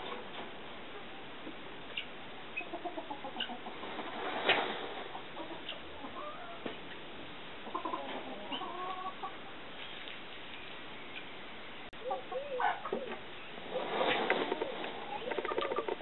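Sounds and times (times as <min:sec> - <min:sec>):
turkeys clucking: 0:01.9 - 0:11.3, 0:11.9 - 0:16.0.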